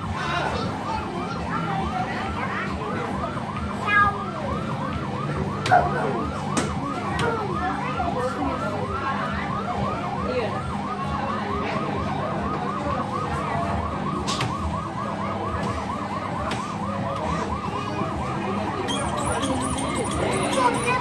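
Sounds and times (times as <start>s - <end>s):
electronic siren wailing: 0.0s - 21.0s.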